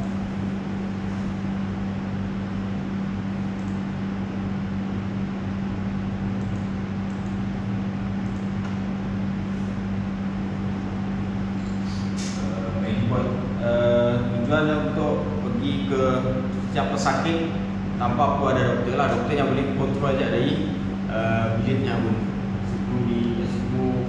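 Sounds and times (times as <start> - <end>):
air conditioner fan rushing: 0.0 - 24.0.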